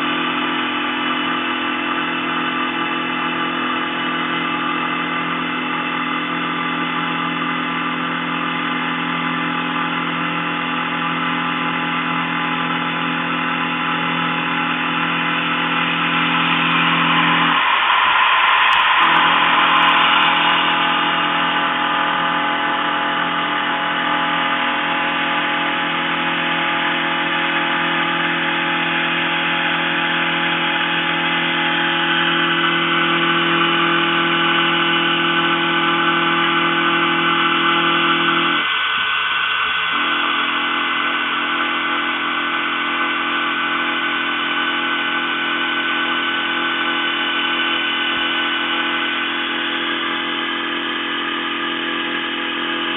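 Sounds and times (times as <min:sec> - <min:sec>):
milling machine whining: 0:00.0 - 0:52.9.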